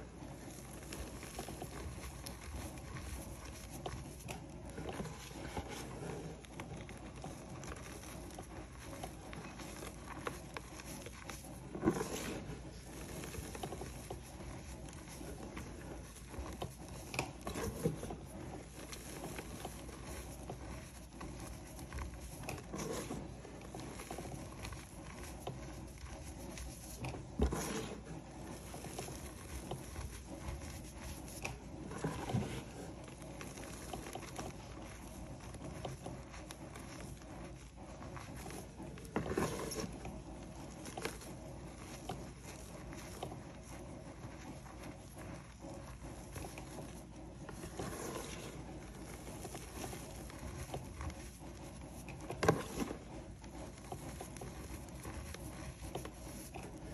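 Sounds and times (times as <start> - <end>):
chalk powder crunching: 0.0 - 56.9.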